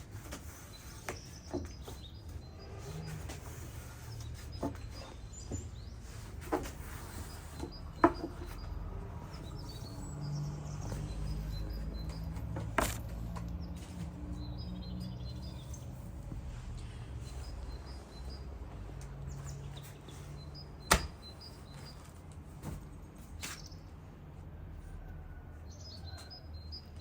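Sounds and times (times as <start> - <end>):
small birds chirping: 0.0 - 24.1, 25.6 - 27.0.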